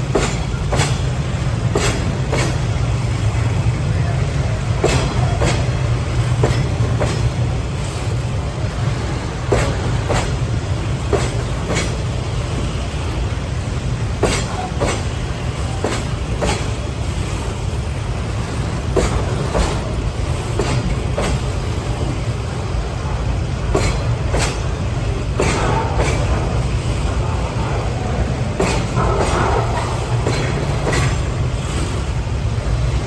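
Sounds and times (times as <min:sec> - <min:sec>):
freight train rumbling: 0:00.0 - 0:33.0
wheels clacking over rail joints: 0:00.0 - 0:33.0.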